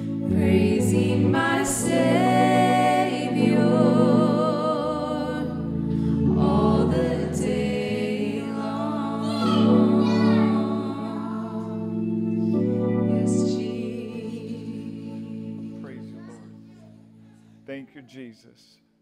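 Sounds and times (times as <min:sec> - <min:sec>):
women singing: 0:00.0 - 0:15.8
keyboard chords: 0:00.0 - 0:17.6.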